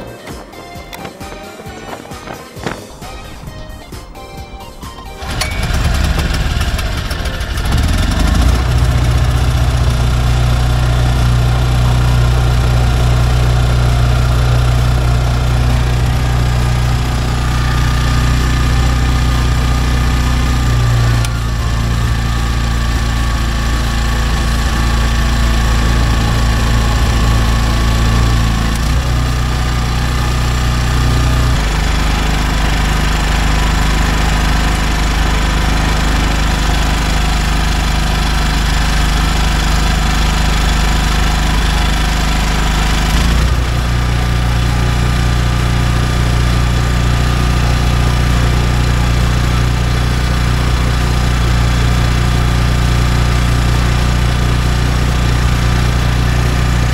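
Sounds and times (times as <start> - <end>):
generator engine running: 0.0 - 56.9.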